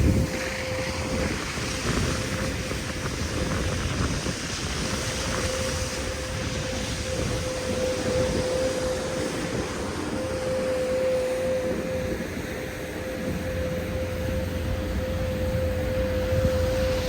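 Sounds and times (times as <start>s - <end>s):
steady mid-pitched hum: 0.0s - 17.0s
wind buffeting microphone: 0.0s - 17.0s.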